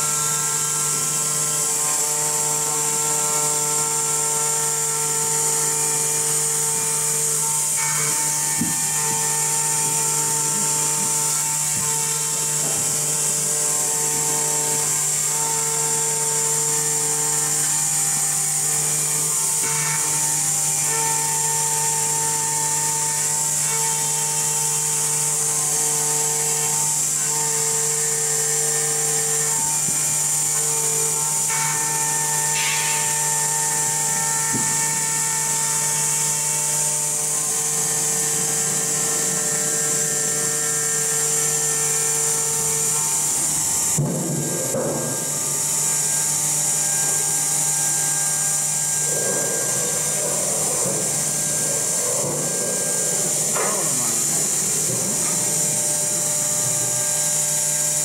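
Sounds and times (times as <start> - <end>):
axis motor tones: 0.0 - 58.0
high-pitched spindle whine: 0.0 - 58.0
noisy cutting bursts: 0.0 - 58.0
steady machine hum: 0.0 - 58.0.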